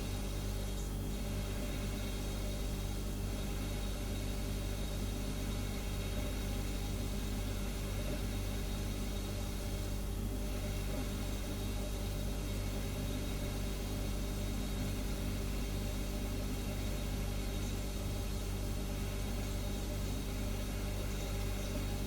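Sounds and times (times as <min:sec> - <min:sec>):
refrigerator humming: 0:00.0 - 0:22.0.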